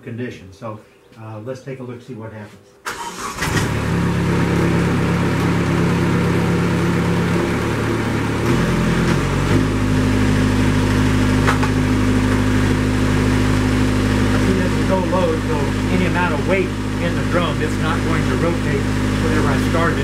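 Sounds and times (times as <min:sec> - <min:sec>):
tractor diesel engine running: 0:02.9 - 0:20.0.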